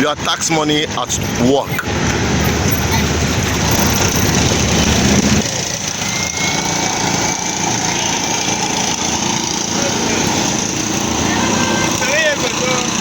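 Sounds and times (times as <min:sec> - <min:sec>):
engines rumbling: 0:00.0 - 0:13.0.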